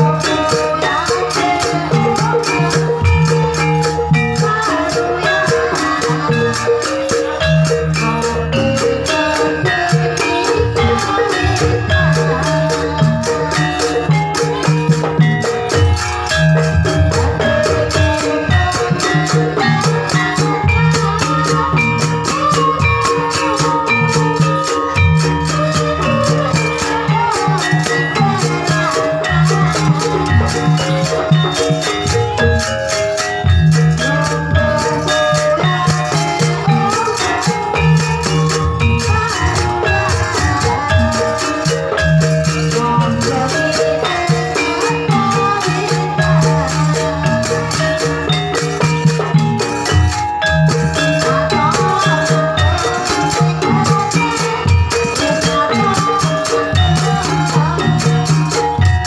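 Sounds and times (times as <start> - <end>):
melody notes: 0.0 - 59.0
rattling dance beat: 0.0 - 59.0.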